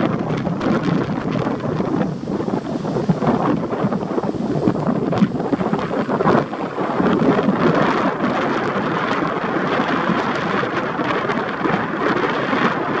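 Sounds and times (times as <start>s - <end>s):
waves breaking and washing in: 0.0s - 13.0s.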